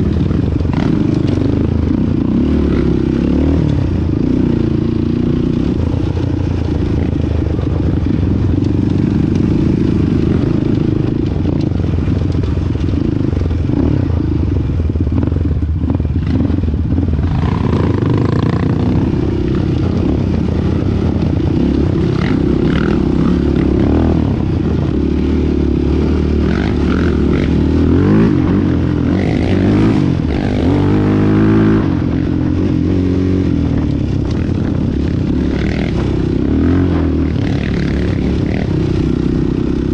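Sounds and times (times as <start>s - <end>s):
rattling and scraping over rough ground: 0.0s - 14.0s, 16.0s - 39.9s
quad engine revving: 0.0s - 14.4s, 15.0s - 39.9s.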